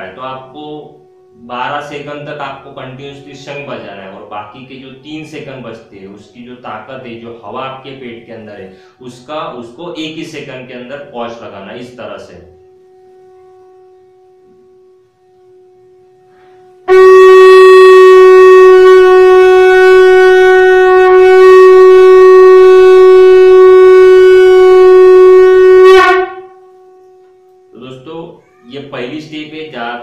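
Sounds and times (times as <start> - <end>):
conch shell blown: 0.0 - 9.0, 11.8 - 27.9.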